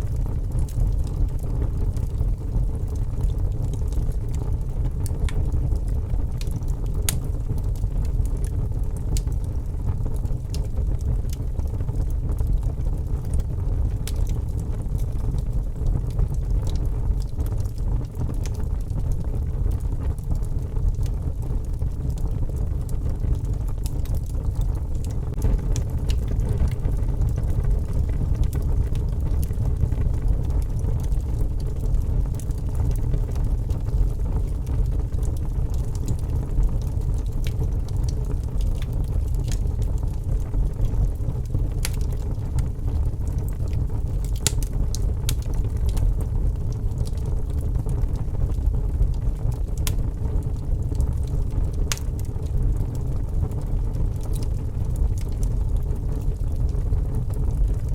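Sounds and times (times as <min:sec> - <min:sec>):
low rumble of storm wind: 0:00.0 - 0:57.9
wood fire crackling: 0:00.0 - 0:57.9.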